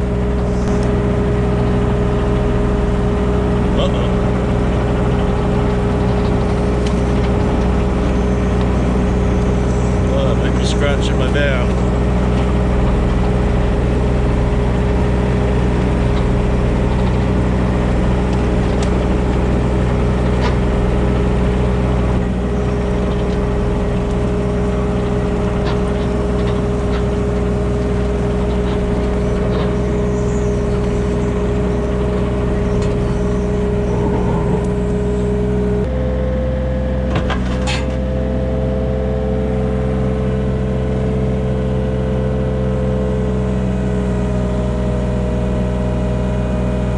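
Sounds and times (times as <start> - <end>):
engine running with whine: 0.0 - 46.9.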